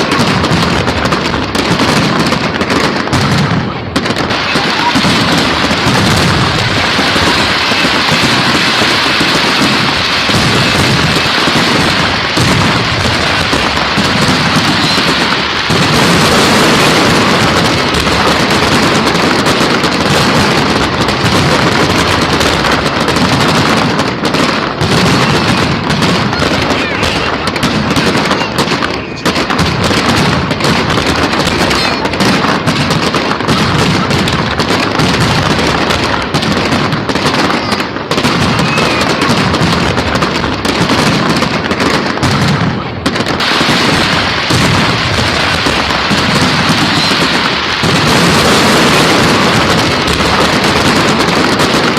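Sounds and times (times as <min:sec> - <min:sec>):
firework hissing and crackling: 0:00.0 - 0:51.9.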